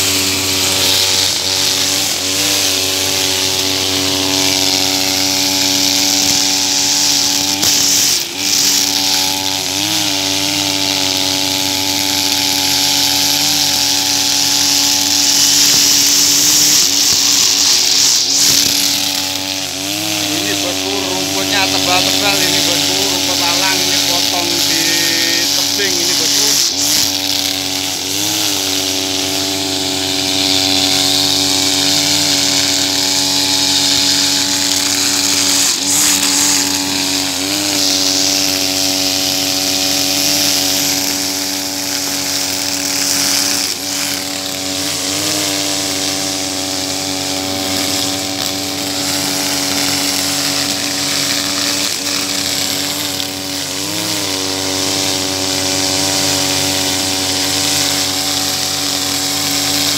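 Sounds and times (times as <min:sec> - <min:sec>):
brush cutter engine high revs: 0:00.0 - 0:59.9
trimmer line cutting grass: 0:00.0 - 0:59.9.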